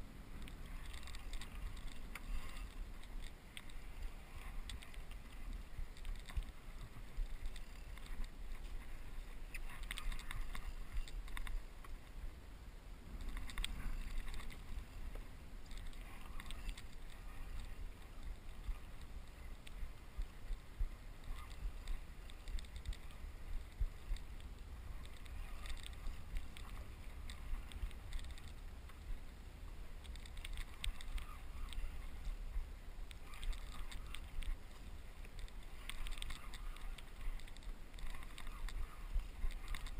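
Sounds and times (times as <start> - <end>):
steady low rumble: 0.0 - 39.9
water lapping against kayak: 0.0 - 39.9.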